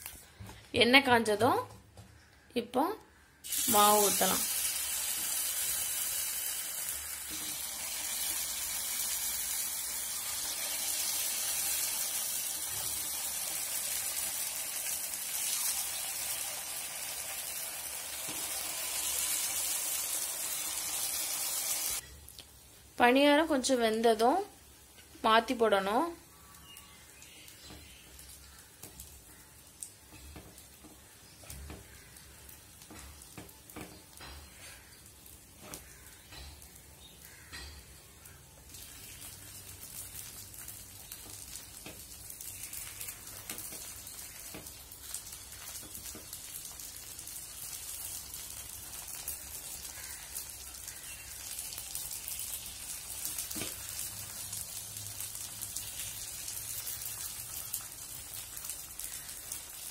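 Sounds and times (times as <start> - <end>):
batter sizzling in oil: 3.4 - 59.9.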